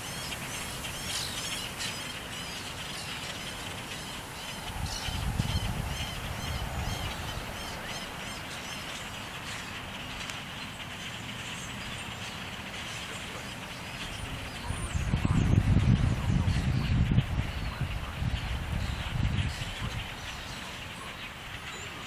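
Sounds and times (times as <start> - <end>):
flock of grackles calling: 0.0 - 22.0.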